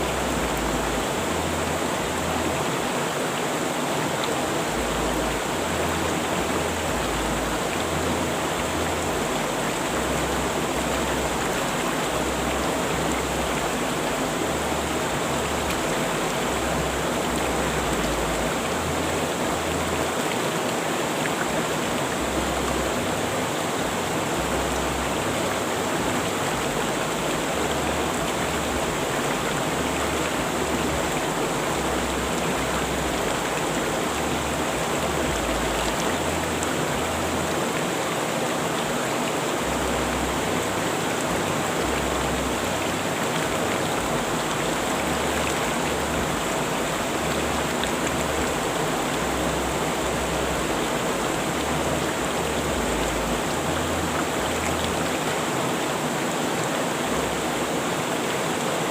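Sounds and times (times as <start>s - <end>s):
river water rushing over rocks: 0.0s - 58.9s.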